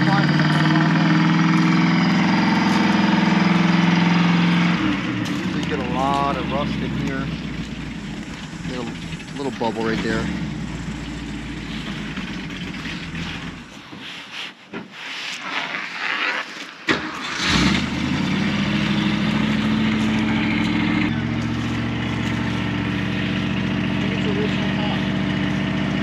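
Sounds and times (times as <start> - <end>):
car engine starting and idling: 0.0 - 13.9, 16.9 - 26.0.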